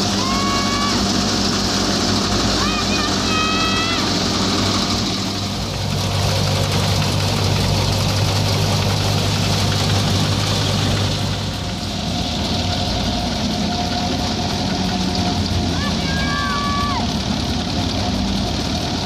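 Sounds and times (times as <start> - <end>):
low engine hum: 0.0 - 19.0
threshing drum spinning: 0.0 - 19.0.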